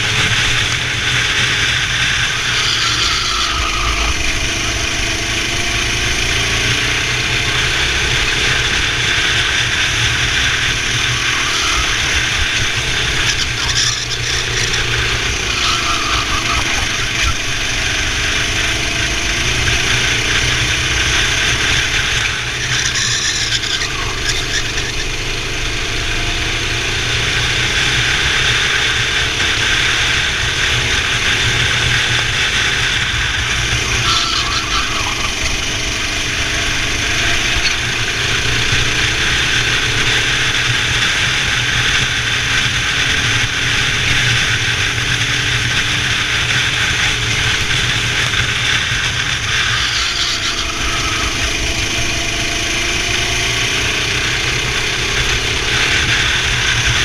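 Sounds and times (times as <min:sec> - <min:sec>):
kart engine revving: 0:00.0 - 0:57.0
wind and tyre noise: 0:00.0 - 0:57.0.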